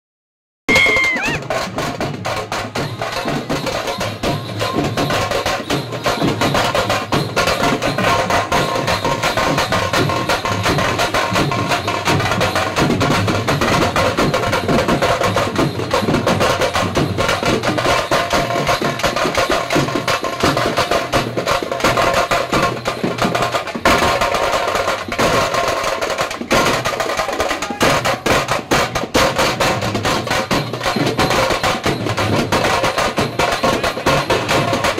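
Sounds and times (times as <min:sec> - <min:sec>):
loud fast drumming music: 0:00.7 - 0:34.9.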